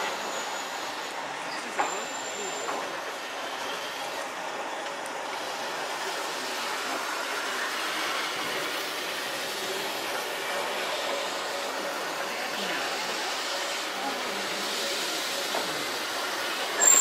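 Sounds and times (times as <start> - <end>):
electric train running: 0.0 - 17.0.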